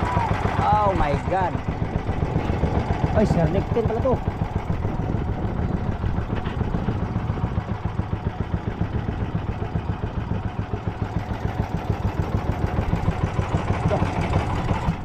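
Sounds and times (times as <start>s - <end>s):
boat engine puttering: 0.0s - 15.0s.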